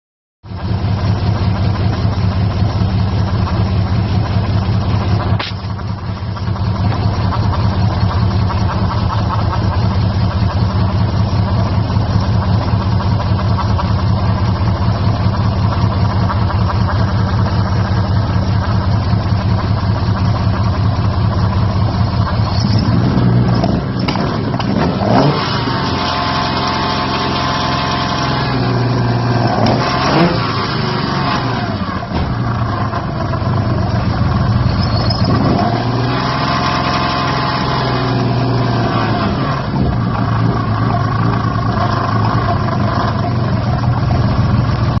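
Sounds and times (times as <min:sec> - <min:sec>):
car engine idling and revving: 0:00.5 - 0:45.0.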